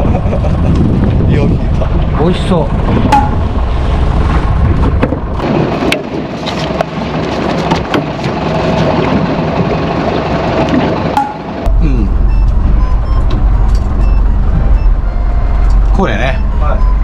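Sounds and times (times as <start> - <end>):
boat engine running: 0.0 - 17.0
low rumble of wind: 0.0 - 17.0.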